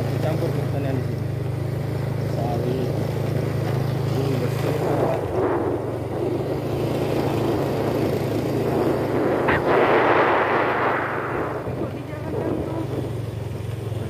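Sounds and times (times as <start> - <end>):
motorcycle engine running: 0.0 - 14.0
road and wind rumble: 0.0 - 14.0.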